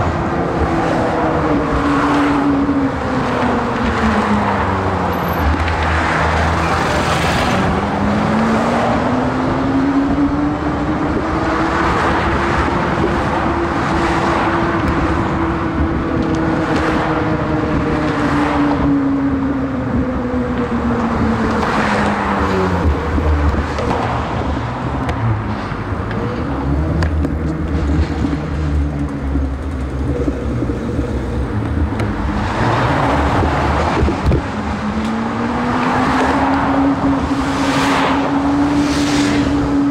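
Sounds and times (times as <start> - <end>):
cars passing close by: 0.0 - 39.9
low traffic rumble: 0.0 - 39.9.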